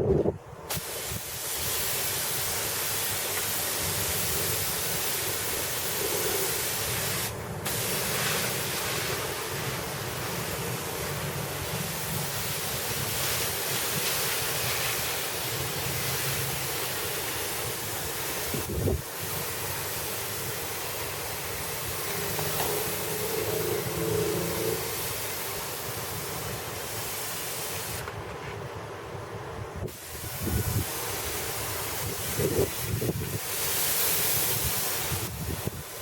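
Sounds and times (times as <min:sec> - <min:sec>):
spray gun hissing: 0:00.7 - 0:28.1, 0:29.8 - 0:36.0.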